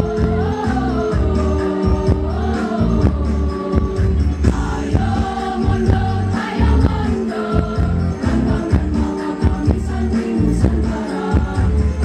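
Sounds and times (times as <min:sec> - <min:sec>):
music with heavy bass and beat: 0:00.0 - 0:12.0
women's choir singing: 0:00.0 - 0:12.0.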